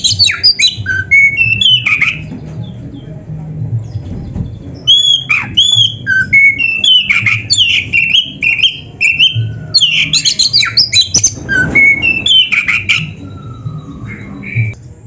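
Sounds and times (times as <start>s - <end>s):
magpie-robin singing: 0.0s - 3.2s, 3.8s - 14.8s.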